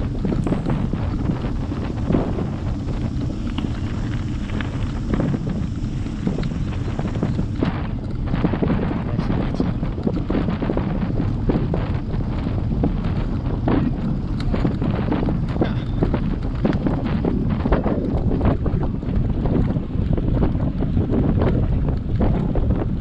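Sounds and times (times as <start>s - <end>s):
tyres rumbling on coarse road: 0.0s - 23.0s
wind buffeting microphone: 0.0s - 23.0s.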